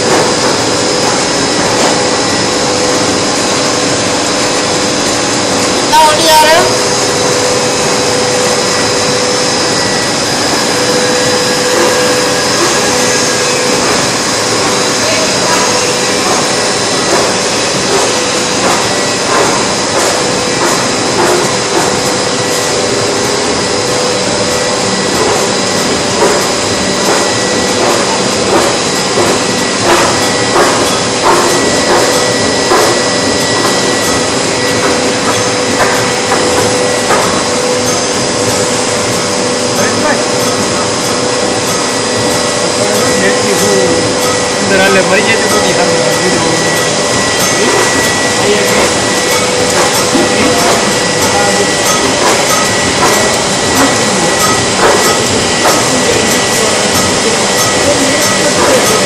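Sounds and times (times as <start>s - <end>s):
constant machine whine: 0.0s - 59.0s
loud machine noise: 0.0s - 59.0s.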